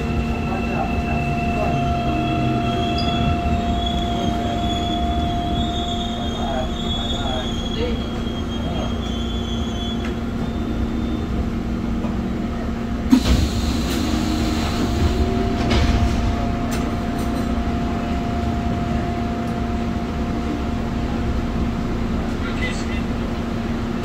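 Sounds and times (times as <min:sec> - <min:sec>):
subway car electrical hum: 0:00.0 - 0:24.0
train knock and rush of noise: 0:00.0 - 0:24.0.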